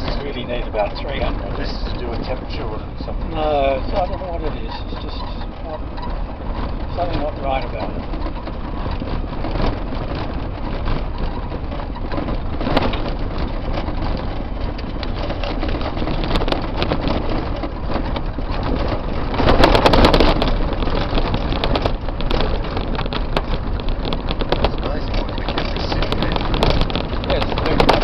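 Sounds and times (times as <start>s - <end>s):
tyres crunching on gravel: 0.0s - 28.0s
vehicle body rattling and knocking: 0.0s - 28.0s.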